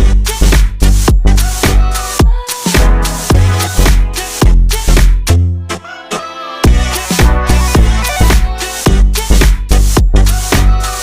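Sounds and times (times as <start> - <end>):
dance music with thumping beat: 0.0 - 5.4, 6.6 - 11.0.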